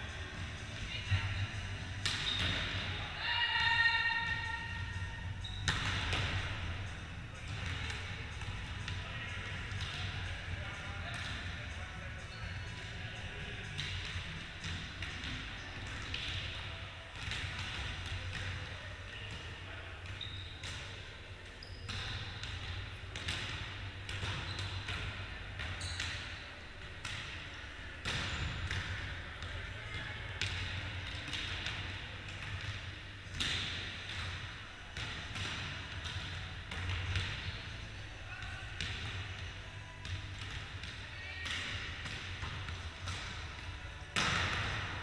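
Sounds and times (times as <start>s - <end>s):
volleyball hit and bouncing: 1.9s - 3.0s, 5.4s - 10.5s, 13.6s - 21.1s, 21.9s - 37.8s, 38.4s - 45.0s.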